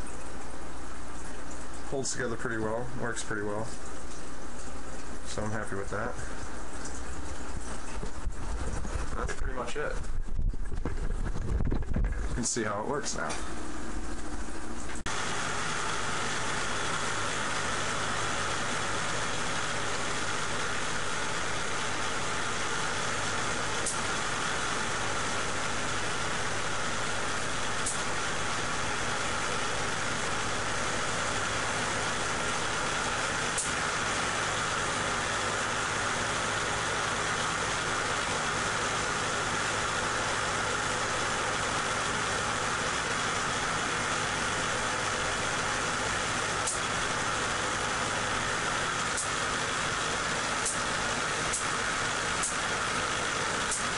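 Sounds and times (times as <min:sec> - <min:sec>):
motor hum and whir: 0:00.0 - 0:53.9.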